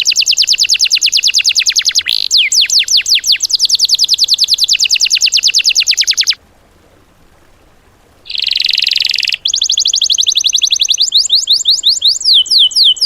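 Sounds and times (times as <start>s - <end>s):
songbird fast trill: 0.0s - 6.4s, 8.3s - 13.0s.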